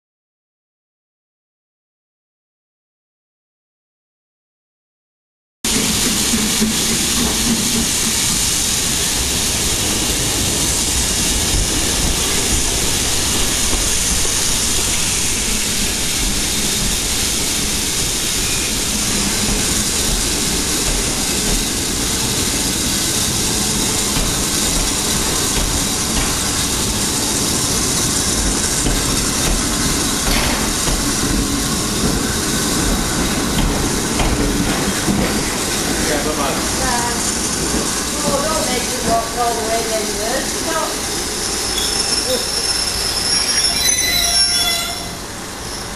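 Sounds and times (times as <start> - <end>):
steam locomotive hiss and rumble: 5.7 - 45.9.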